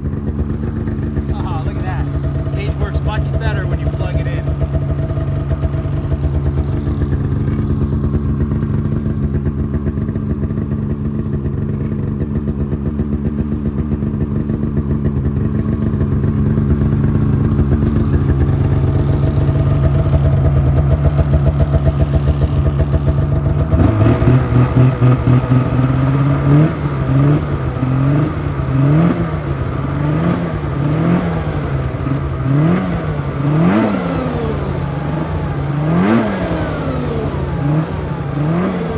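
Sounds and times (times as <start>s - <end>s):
engine revving: 0.0s - 11.7s, 13.7s - 38.9s
snowmobile engine idling: 0.0s - 38.9s.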